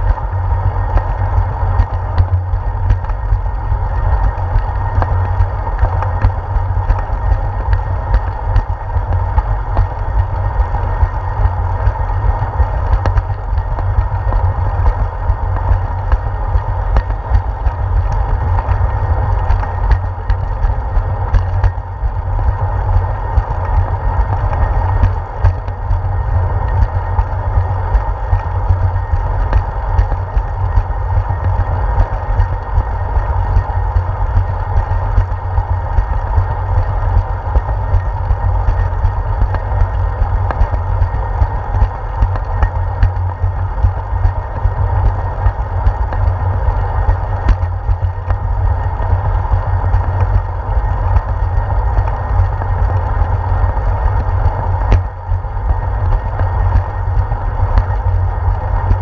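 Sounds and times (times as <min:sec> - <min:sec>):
bicycle rolling on concrete: 0:00.0 - 0:59.0.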